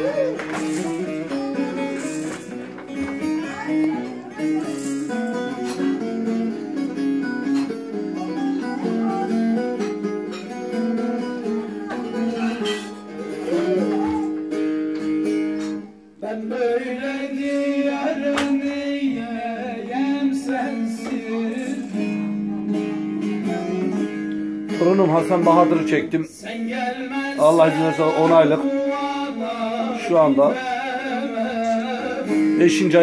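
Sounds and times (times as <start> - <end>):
person singing: 0.0 - 33.0
plucked string instrument: 0.0 - 33.0.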